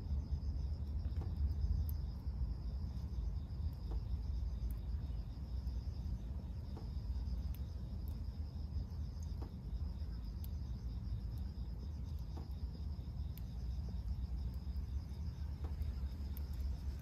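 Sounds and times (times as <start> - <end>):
constant low rumble: 0.0 - 17.0
high-pitched insect trill: 0.0 - 17.0
faint ticks: 0.7 - 17.0.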